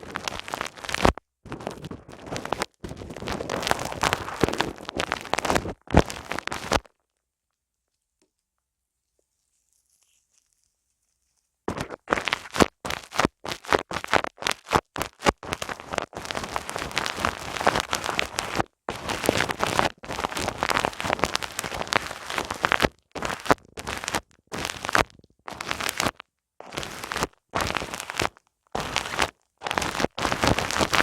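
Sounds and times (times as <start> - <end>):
fingers scratching on microphone: 0.0 - 6.9, 11.7 - 31.0.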